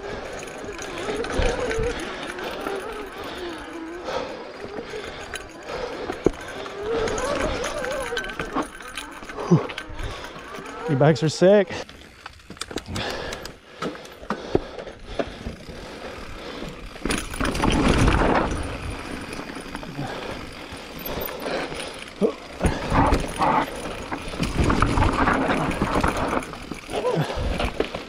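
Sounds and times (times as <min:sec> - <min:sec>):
bike frame and chain rattling: 0:00.0 - 0:28.0
bike tyres crunching over rock: 0:00.0 - 0:28.0.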